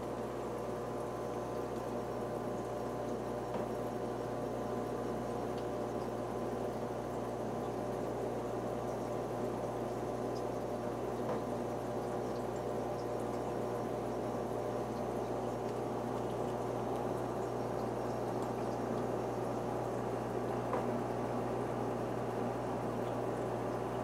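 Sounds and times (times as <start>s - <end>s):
aquarium filter bubbling: 0.0s - 24.0s
filter low hum: 0.0s - 24.0s.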